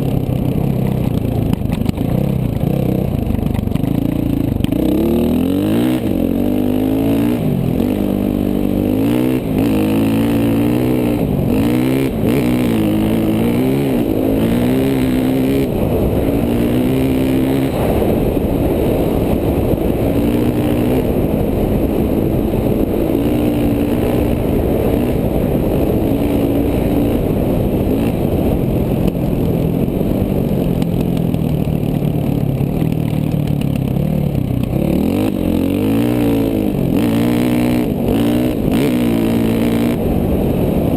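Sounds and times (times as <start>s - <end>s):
dirt bike engine revving: 3.9s - 30.4s, 34.0s - 40.9s.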